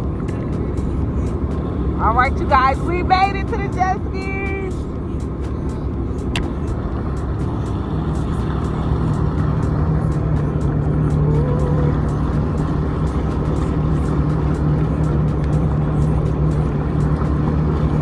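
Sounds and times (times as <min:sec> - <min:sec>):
background music with ticking beat: 0:00.0 - 0:18.0
jet ski engine humming: 0:00.0 - 0:18.0.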